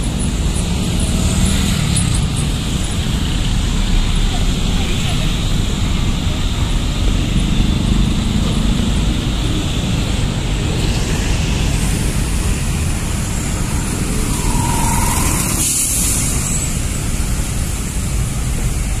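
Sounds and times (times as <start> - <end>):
heavy road traffic passing: 0.0 - 19.0.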